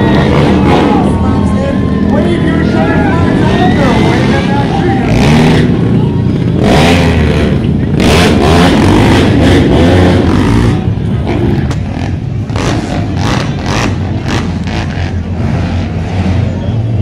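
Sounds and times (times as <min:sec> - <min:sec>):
quad engines rumbling: 0:00.0 - 0:17.0.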